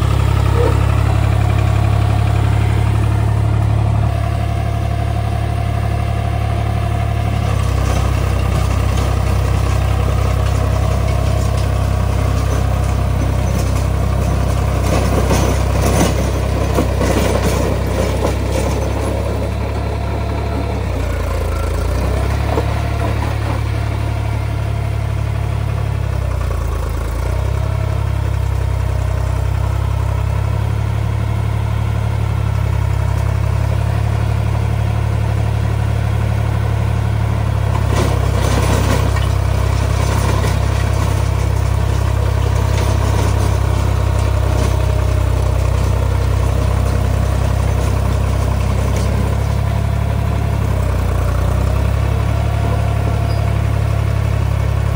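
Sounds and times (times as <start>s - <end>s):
rotary tiller churning soil: 0.0s - 4.6s, 7.0s - 28.9s, 37.0s - 54.9s
tractor diesel engine running: 0.0s - 54.9s.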